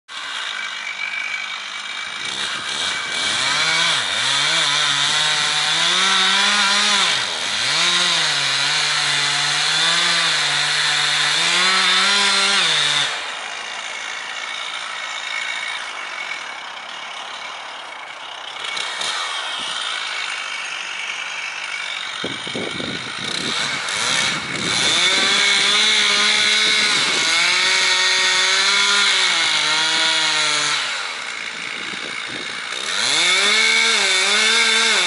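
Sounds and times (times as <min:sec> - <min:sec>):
chainsaw cutting wood: 0:00.1 - 0:35.0.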